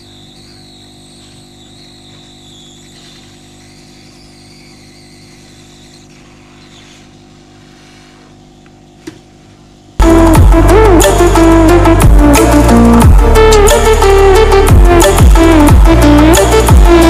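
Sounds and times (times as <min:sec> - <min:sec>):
hot air gun fan whine: 0:00.0 - 0:17.0.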